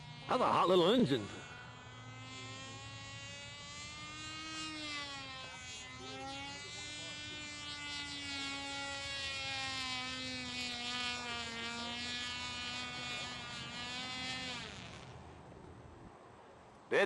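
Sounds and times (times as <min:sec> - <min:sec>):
model plane engine whining: 0:00.0 - 0:15.2.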